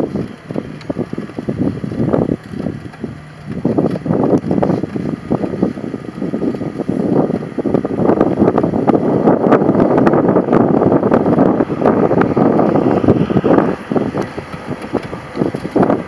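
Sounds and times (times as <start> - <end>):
vehicle rumbling on dirt road: 0.0 - 16.0
wind buffeting microphone: 0.0 - 16.0.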